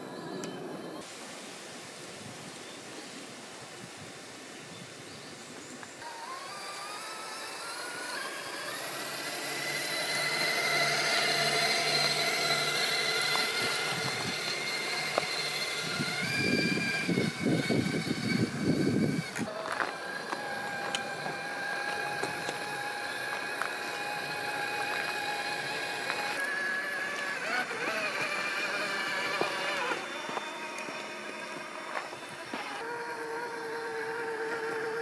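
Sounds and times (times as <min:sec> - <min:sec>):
tires crunching on stones: 0:05.9 - 0:35.0
electric motor whining: 0:06.0 - 0:35.0.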